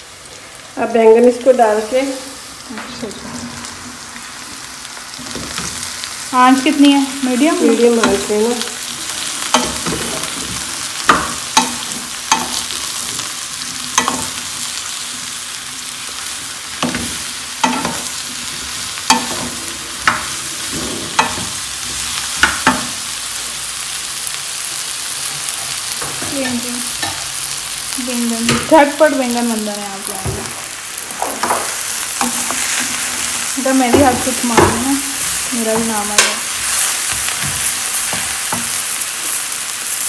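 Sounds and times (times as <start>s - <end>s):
vegetables sizzling in a pot: 0.0s - 40.0s.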